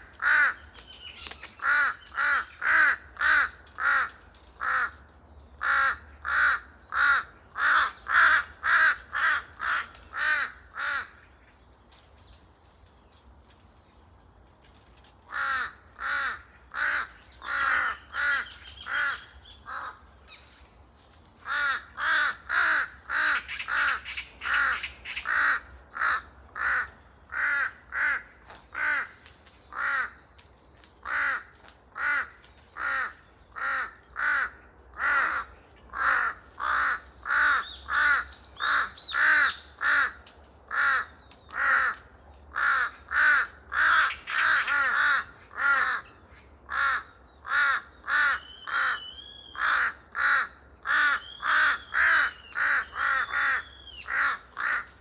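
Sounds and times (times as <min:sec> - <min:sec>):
crows cawing: 0:00.0 - 0:00.7, 0:01.4 - 0:11.3, 0:15.2 - 0:20.2, 0:21.4 - 0:55.0.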